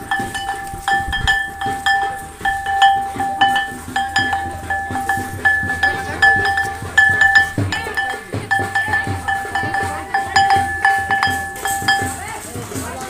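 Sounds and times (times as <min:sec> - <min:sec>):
ringing metal instrument struck: 0:00.0 - 0:12.6.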